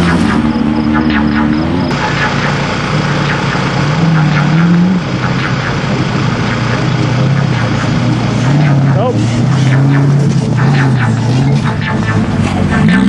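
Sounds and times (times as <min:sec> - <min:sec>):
vehicle engine running loudly: 0:00.0 - 0:13.0.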